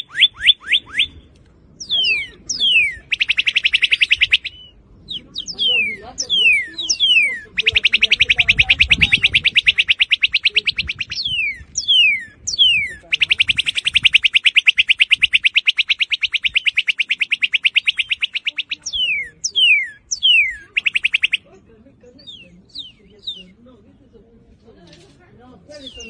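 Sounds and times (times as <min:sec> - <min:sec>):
bird down-slurred whistles: 0:00.0 - 0:21.5
bird rapid trills: 0:00.0 - 0:21.5.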